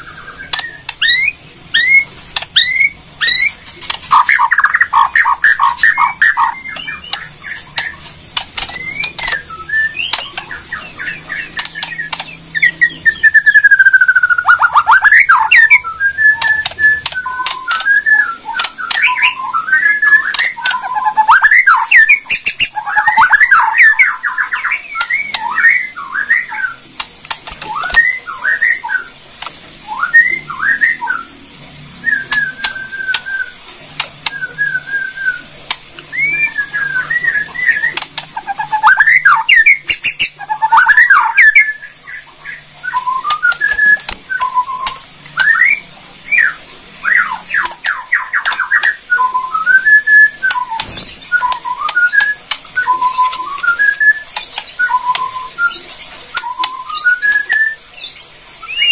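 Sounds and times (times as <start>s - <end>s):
bird singing whistled phrases: 0.0s - 8.0s, 8.7s - 26.8s, 27.6s - 29.1s, 29.8s - 31.4s, 32.0s - 33.6s, 34.3s - 35.5s, 36.1s - 58.9s
sharp clicking bird notes: 0.3s - 25.8s, 26.4s - 28.2s, 32.2s - 34.8s, 35.6s - 41.7s, 42.9s - 45.8s, 47.1s - 57.8s.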